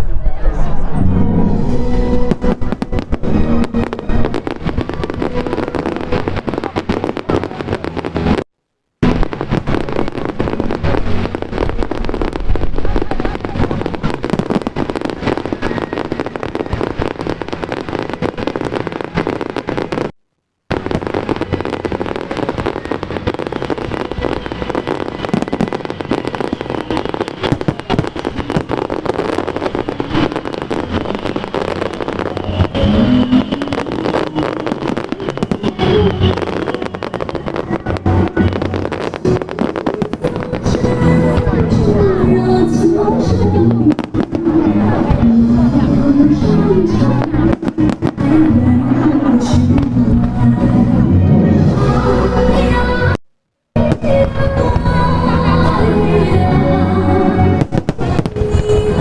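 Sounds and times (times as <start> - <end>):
music playing: 0.0 - 8.4, 9.0 - 20.0, 20.7 - 53.2, 53.8 - 59.0
fireworks crackling and popping: 1.5 - 59.0.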